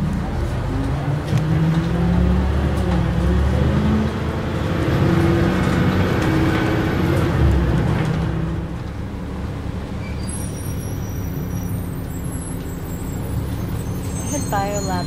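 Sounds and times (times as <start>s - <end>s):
bus engine drone: 0.0s - 15.0s
road rumble: 0.0s - 15.0s.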